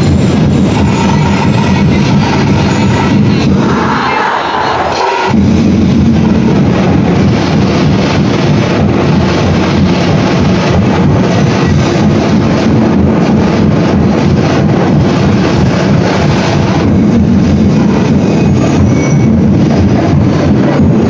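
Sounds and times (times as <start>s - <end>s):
loud overdriven percussion drumming: 0.0s - 4.2s, 4.8s - 21.0s.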